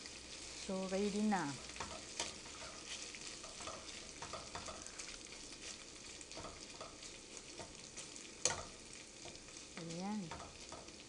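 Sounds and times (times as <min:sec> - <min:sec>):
beef sizzling in a frying pan: 0:00.0 - 0:11.0
spoon scraping against pan: 0:00.2 - 0:11.0.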